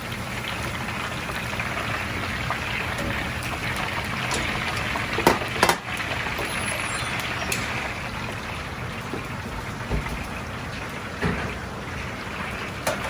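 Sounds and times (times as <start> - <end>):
food sizzling in hot oil: 0.0 - 11.1.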